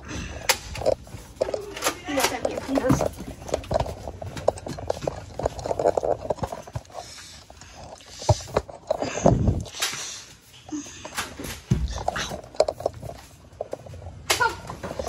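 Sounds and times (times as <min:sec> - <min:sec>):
footsteps: 0:00.6 - 0:15.0.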